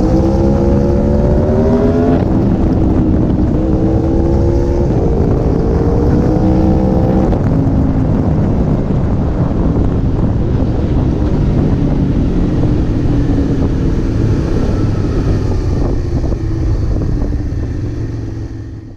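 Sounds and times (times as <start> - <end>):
motorcycle engine running: 0.0 - 18.9
wind noise on microphone: 0.0 - 18.9.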